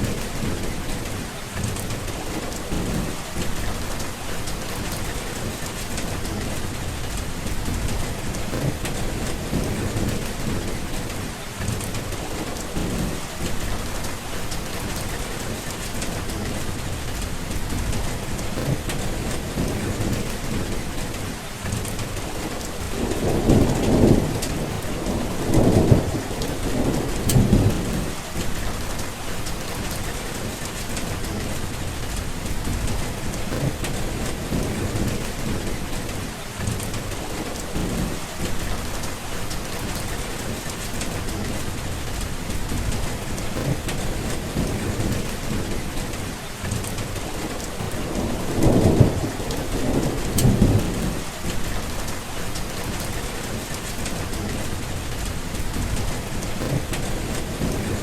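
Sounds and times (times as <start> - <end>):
heavy rain: 0.0 - 58.0
rolling thunder: 0.0 - 58.0.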